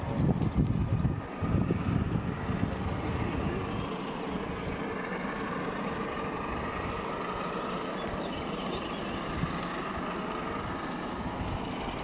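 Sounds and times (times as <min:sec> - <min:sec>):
distant train rumble: 0:00.0 - 0:12.0.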